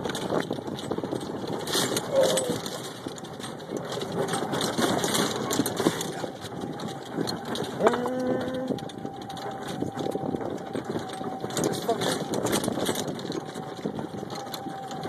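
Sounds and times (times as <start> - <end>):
cart knocking and rattling: 0.0 - 15.0
golf cart motor running: 0.0 - 15.0.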